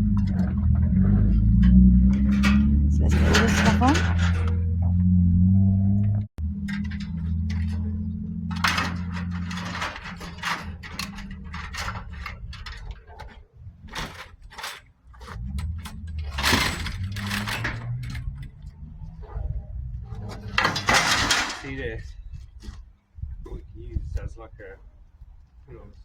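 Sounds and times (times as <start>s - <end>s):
scrap metal clanking: 0.0s - 19.5s, 20.1s - 22.0s.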